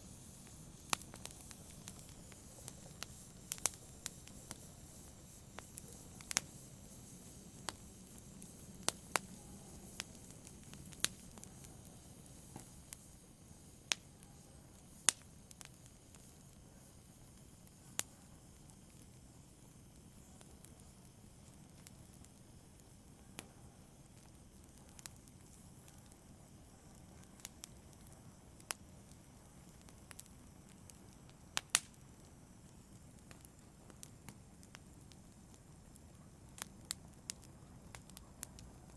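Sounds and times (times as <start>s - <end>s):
fire hissing: 0.0s - 38.9s
wood fire crackling and popping: 0.0s - 38.9s.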